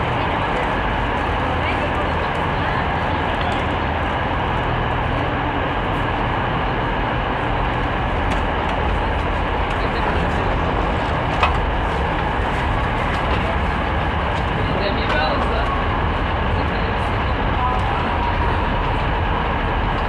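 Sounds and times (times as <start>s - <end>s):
rumble of trains: 0.0s - 20.0s.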